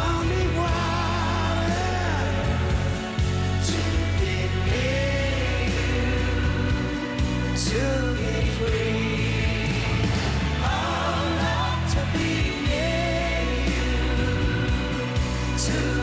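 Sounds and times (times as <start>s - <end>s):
bass guitar: 0.0s - 16.0s
drum and cymbal hits: 0.0s - 16.0s.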